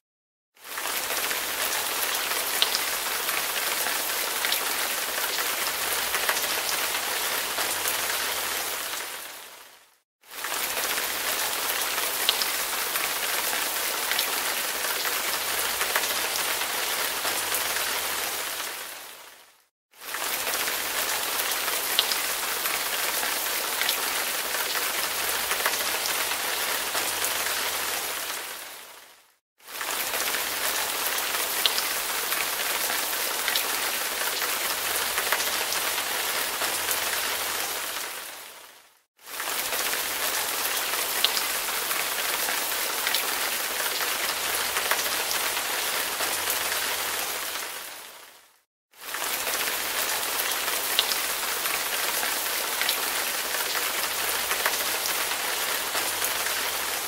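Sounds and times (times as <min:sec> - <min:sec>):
steady rain: 0:00.6 - 0:57.0.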